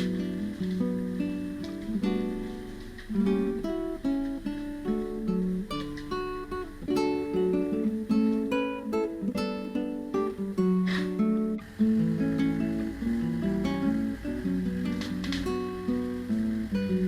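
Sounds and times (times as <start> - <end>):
acoustic guitar picking melody: 0.0 - 17.0.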